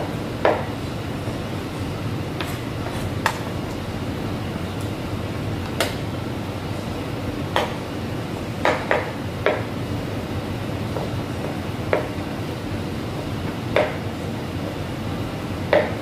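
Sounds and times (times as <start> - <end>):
kitchen equipment running: 0.0 - 16.0.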